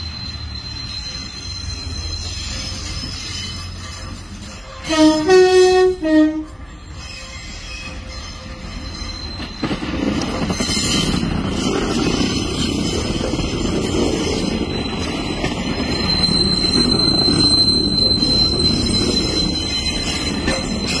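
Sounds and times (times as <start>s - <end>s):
diesel train engines: 0.0s - 21.0s
high-pitched wheel squeal: 0.0s - 21.0s
train wheels on rails: 0.0s - 21.0s.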